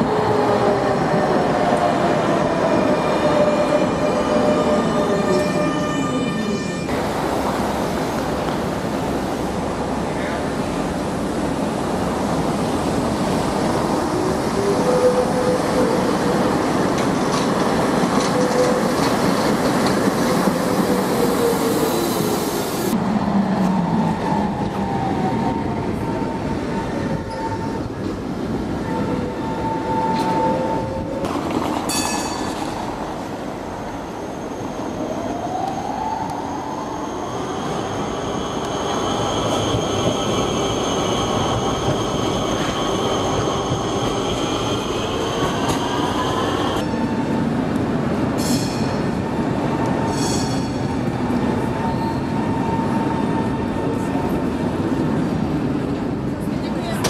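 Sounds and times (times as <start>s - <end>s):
tram wheels rumbling on rails: 6.9s - 57.0s.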